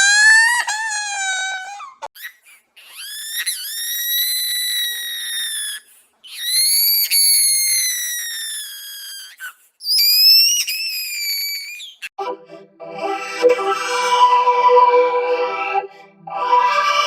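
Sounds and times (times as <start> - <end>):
baby crying: 0.0 - 12.1, 13.0 - 14.6.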